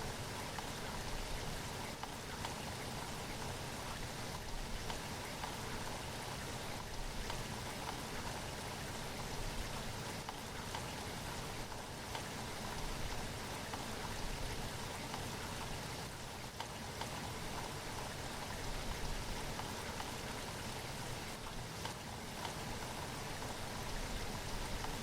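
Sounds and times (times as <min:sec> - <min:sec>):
steady rain falling: 0:00.0 - 0:25.0
faint clicks of raindrops: 0:00.3 - 0:25.0.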